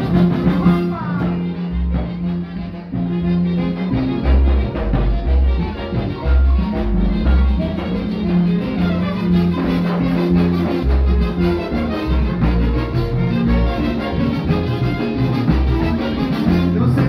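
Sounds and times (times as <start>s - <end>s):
brass and woodwind band music: 0.0s - 17.0s
steady bass beat: 0.0s - 17.0s.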